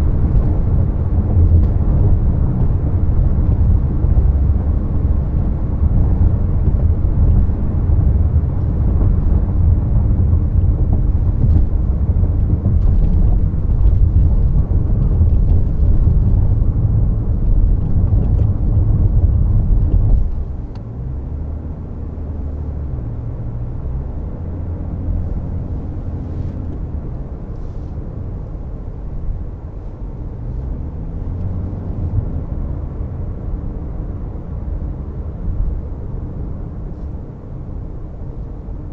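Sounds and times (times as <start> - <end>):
low cabin hum: 0.0 - 38.9
road and tyre rumble: 0.0 - 38.9.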